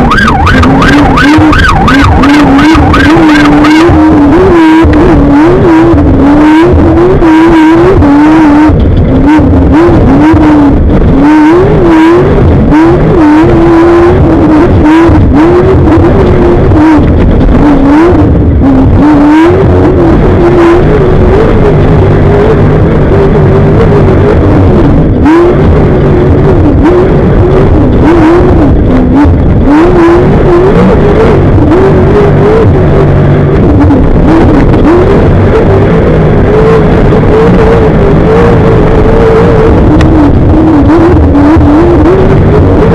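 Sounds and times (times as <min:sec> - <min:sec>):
heavy low rumbling noise: 0:00.0 - 0:42.9
race engine revving: 0:00.0 - 0:42.9
wind and chassis noise: 0:00.0 - 0:42.9.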